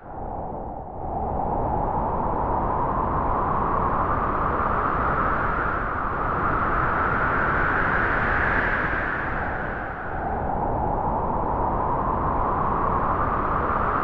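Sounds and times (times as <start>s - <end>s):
howling wind: 0.0s - 14.0s.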